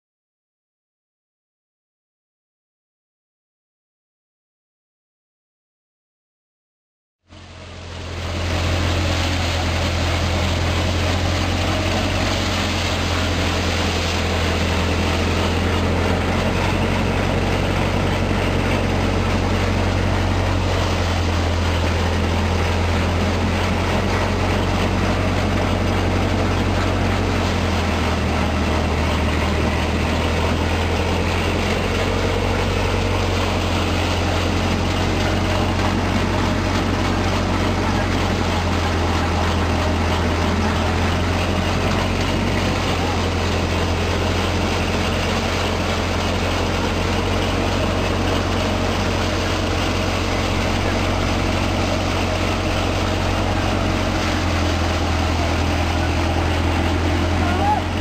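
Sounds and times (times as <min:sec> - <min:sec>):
thresher machine whirring rattle: 0:07.8 - 0:58.0.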